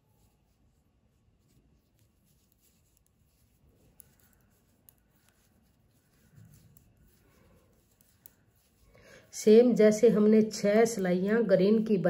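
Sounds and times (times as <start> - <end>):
yarn rustling: 0.0 - 10.0.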